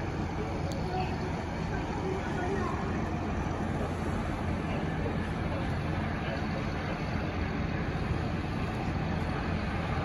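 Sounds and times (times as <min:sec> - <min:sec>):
constant hum: 0:00.0 - 0:10.0
low engine rumble: 0:00.0 - 0:10.0.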